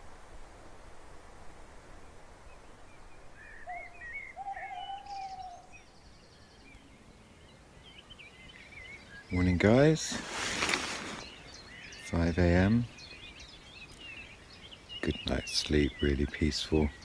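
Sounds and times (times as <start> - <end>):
lower bird call: 2.4 - 17.0
small birds chirping: 2.4 - 17.0.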